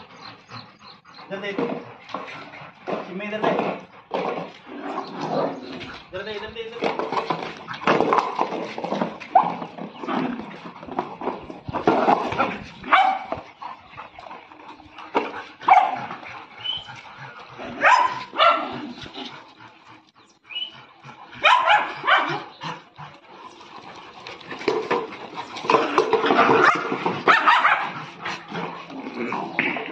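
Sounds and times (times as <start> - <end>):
dogs barking and yipping: 0.0 - 6.1, 6.8 - 29.9.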